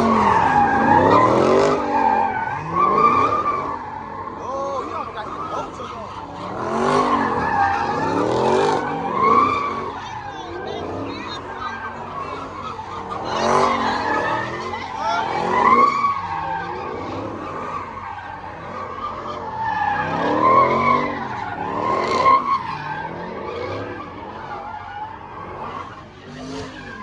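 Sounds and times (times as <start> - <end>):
car tyres squealing: 0.0 - 27.0
engine revving: 0.0 - 27.0.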